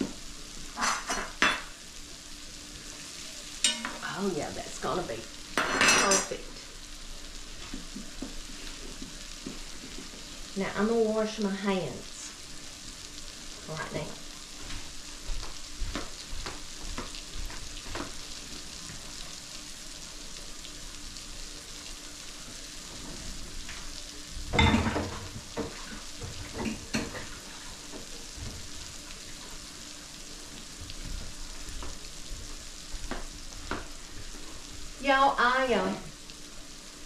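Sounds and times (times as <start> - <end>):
vegetables frying in hot oil: 0.0 - 37.0.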